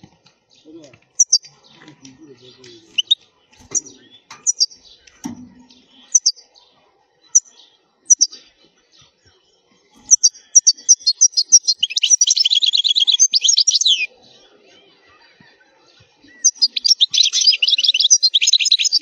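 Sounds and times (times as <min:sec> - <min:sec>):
goldfinch chirping and singing: 0:00.5 - 0:06.5, 0:07.3 - 0:14.8, 0:15.8 - 0:19.0.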